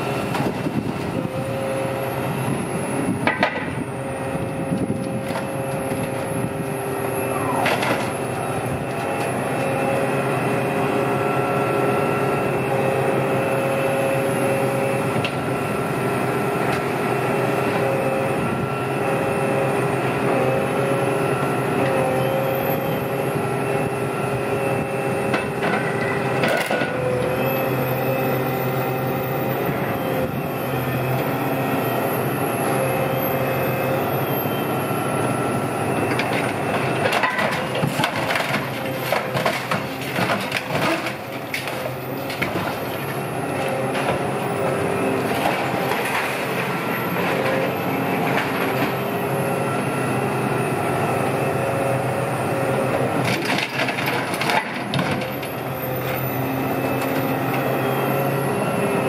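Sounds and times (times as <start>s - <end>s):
hydraulic machine whine: 0.0s - 59.0s.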